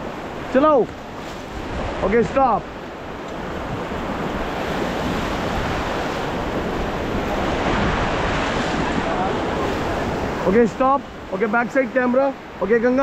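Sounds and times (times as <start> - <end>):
wind buffeting microphone: 0.0 - 11.3
whitewater rapids rushing: 0.0 - 13.0.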